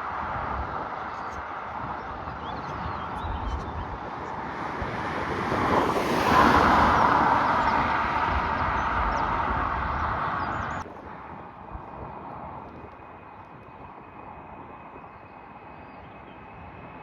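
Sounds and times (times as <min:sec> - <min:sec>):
aircraft engine passing: 0:00.0 - 0:17.0.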